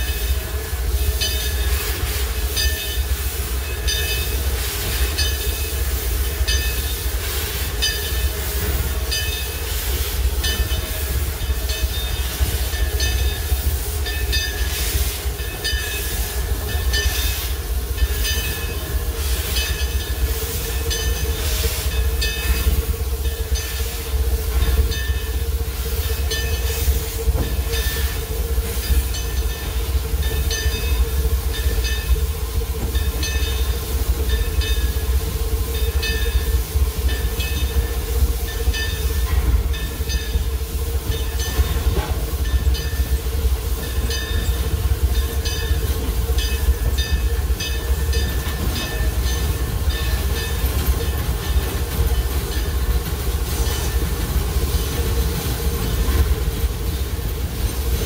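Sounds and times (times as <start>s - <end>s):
steam locomotive low rumble: 0.0s - 58.0s.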